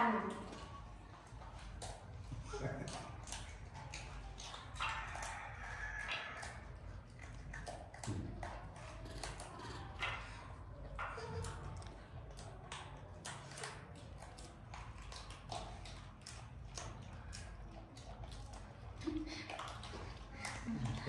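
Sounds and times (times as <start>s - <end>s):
monkeys chewing wetly: 0.0s - 21.0s.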